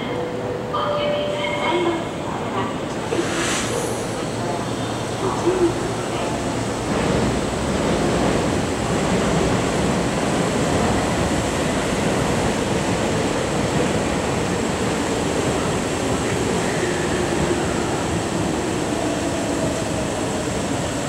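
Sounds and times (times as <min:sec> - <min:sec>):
train equipment hum and hiss: 0:00.0 - 0:21.0.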